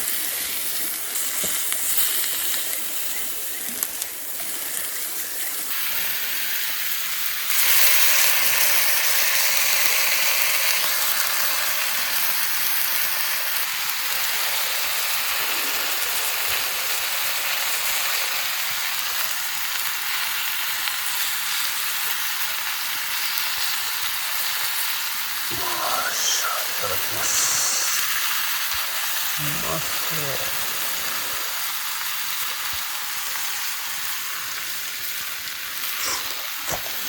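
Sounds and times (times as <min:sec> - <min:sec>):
chicken sizzling in frying: 0:00.0 - 0:25.5, 0:26.1 - 0:37.0.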